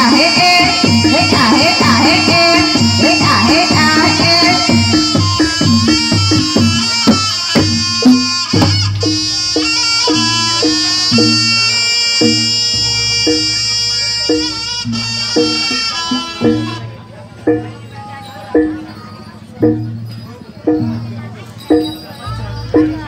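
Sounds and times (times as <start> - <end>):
drum hits: 0.0 - 17.9, 19.6 - 23.0
reedy wind instrument melody: 0.0 - 23.0.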